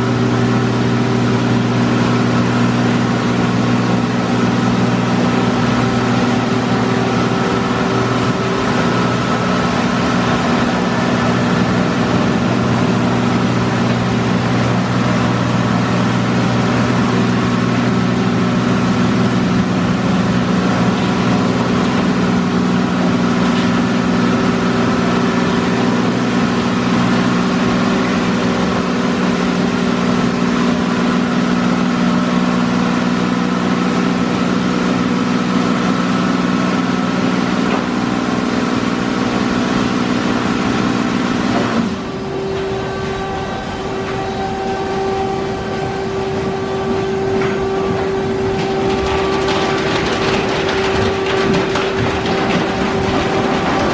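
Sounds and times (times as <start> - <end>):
car wash machine humming: 0.0 - 53.9.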